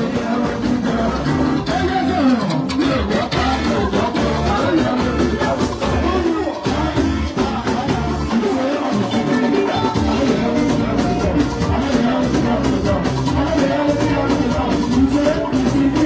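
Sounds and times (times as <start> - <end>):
music with pulsing bass beat: 0.0 - 16.0.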